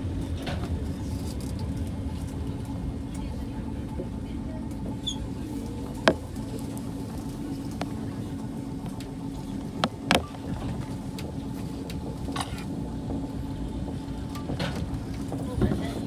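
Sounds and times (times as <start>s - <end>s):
train rumble from inside car: 0.0s - 16.0s.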